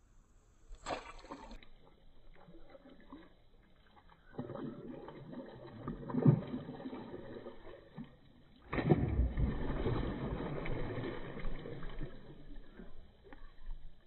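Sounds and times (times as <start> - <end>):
fish thrashing and splashing: 0.8 - 13.8.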